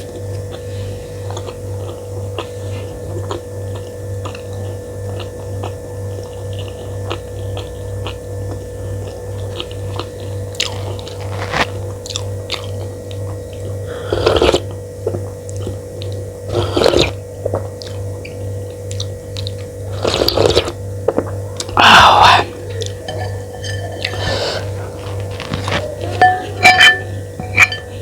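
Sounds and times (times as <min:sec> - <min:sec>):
low electrical hum: 0:00.0 - 0:28.0
person chewing and crunching food: 0:00.0 - 0:28.0.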